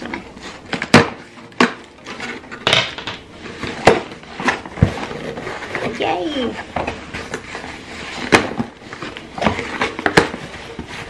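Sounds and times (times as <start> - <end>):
items knocking and clattering: 0.0 - 11.0
packaging rustling: 0.0 - 11.0.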